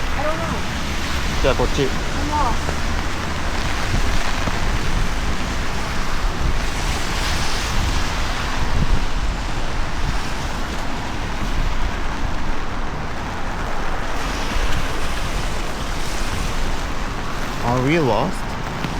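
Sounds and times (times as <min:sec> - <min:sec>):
rain hiss: 0:00.0 - 0:18.9
wind buffeting the microphone: 0:00.0 - 0:18.9.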